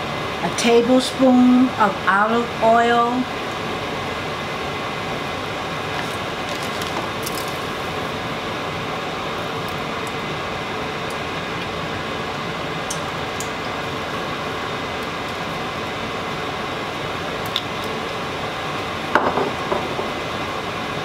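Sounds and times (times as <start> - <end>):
fan rushing: 0.0 - 21.0.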